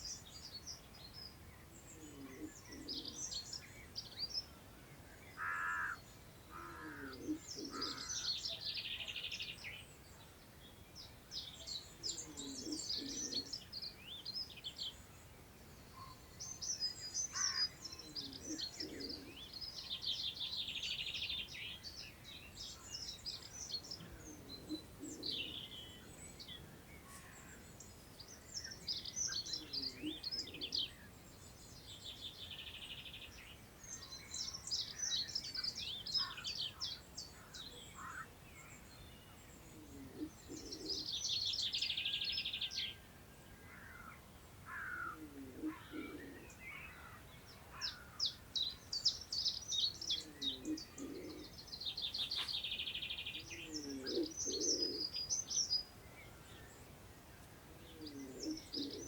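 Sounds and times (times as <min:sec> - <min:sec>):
faint wind hiss: 0:00.0 - 0:59.0
lower bird calls: 0:05.3 - 0:09.8, 0:15.9 - 0:59.0.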